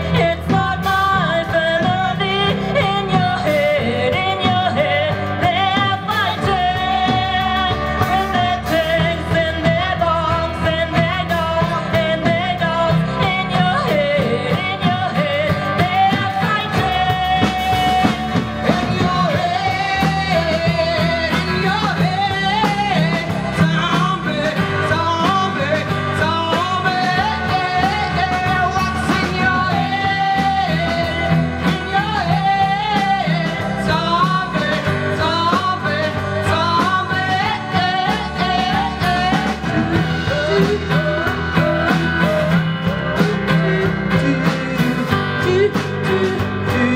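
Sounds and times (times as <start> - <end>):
live rock band playing: 0.0 - 46.9
women singing lead: 0.0 - 46.9.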